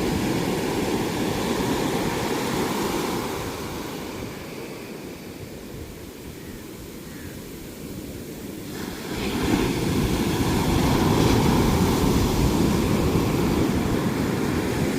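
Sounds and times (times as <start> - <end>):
ocean waves breaking: 0.0 - 6.2, 8.2 - 14.9.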